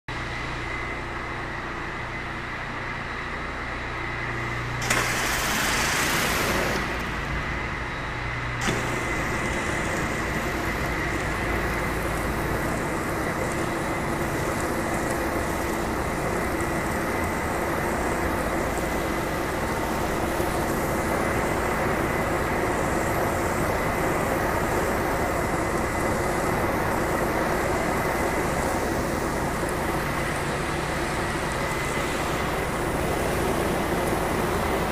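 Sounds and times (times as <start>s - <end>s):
pressure washer machinery whine: 0.1s - 34.9s.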